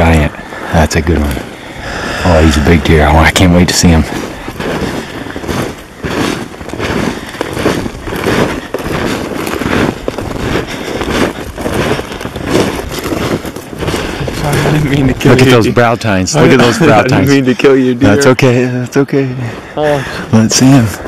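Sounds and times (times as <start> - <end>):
footsteps crunching through snow: 0.0 - 21.0.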